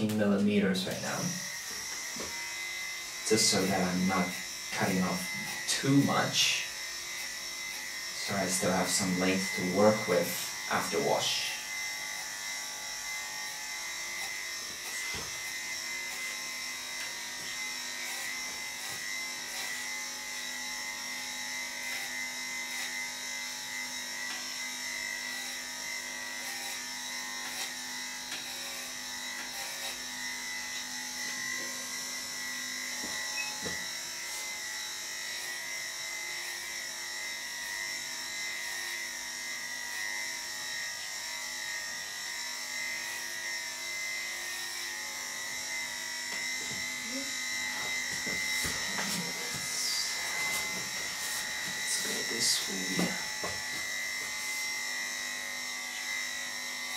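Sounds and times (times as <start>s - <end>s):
electric clippers running: 0.0s - 56.9s.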